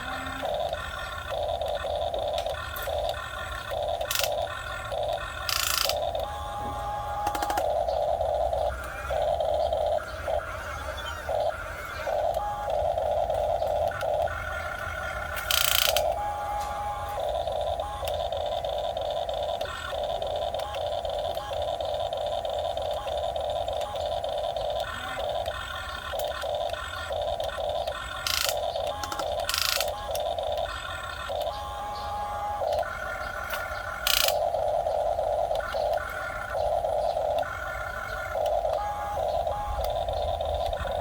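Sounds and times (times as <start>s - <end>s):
small electric motors whining: 0.0s - 41.0s.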